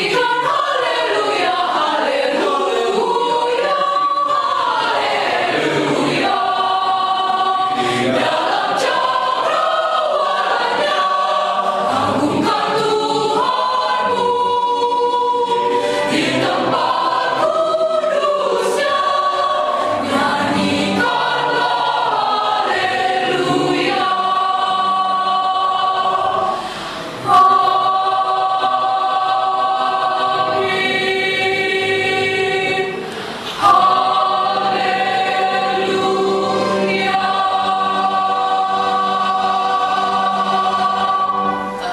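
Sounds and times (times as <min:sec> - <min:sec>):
mixed choir singing: 0:00.0 - 0:41.9.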